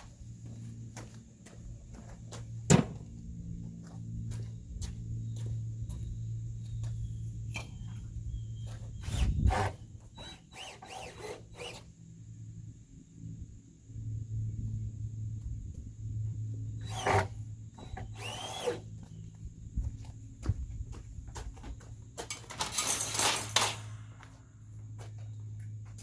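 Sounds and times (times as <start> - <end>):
steady low hum: 0.0 - 22.3.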